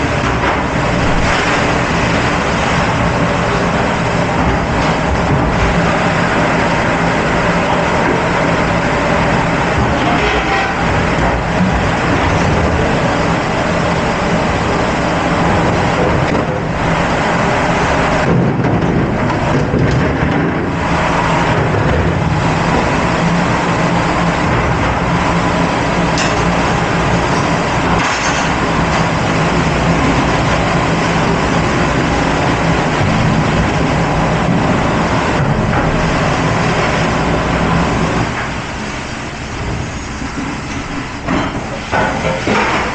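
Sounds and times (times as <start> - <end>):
constant low hum: 0.0 - 42.9
dishwasher pumps and water spray: 0.0 - 42.9.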